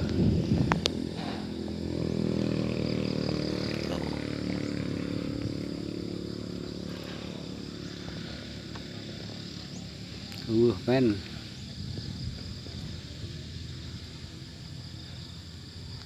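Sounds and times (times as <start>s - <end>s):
vehicle engine passing: 0.0s - 14.6s.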